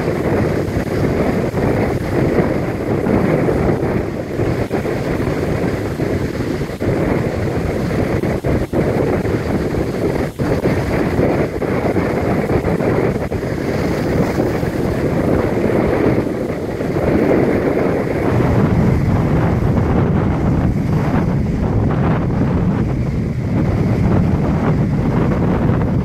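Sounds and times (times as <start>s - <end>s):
waves breaking against a wall: 0.0s - 26.0s
wind buffeting microphone: 0.0s - 26.0s.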